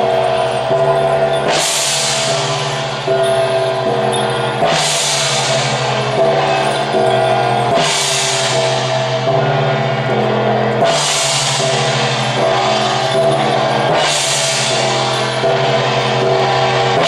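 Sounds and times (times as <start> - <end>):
drumming: 0.0 - 17.0
large hand cymbals crashing: 0.0 - 17.0.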